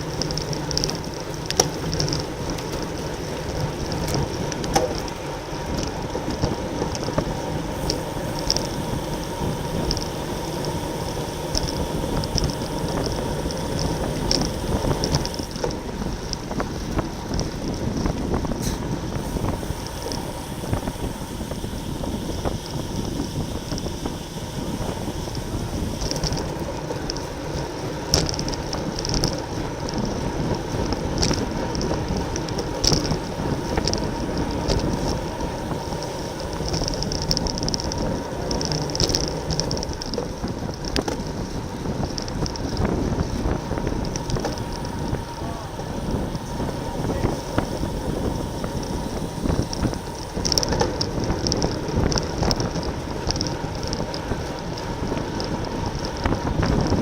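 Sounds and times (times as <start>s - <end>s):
steady rumble: 0.0s - 57.0s
wind rushing over microphone: 0.0s - 57.0s.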